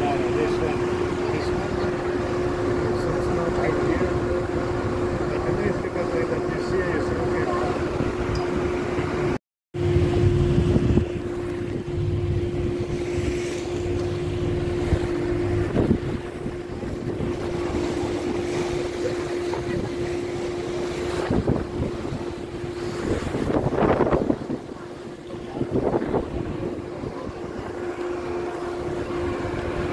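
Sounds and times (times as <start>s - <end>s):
boat engine droning: 0.0s - 29.9s
water rushing past hull: 0.0s - 29.9s
wind buffeting microphone: 0.0s - 29.9s.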